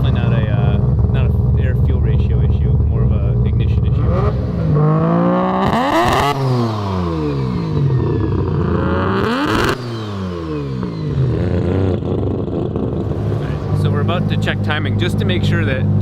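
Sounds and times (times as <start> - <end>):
rotary engine revving: 0.0 - 16.0.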